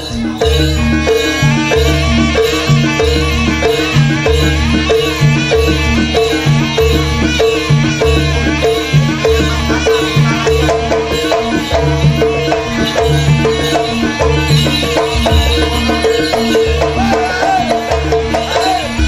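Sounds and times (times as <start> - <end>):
drums: 0.0 - 19.0
pitched percussion: 0.0 - 19.0.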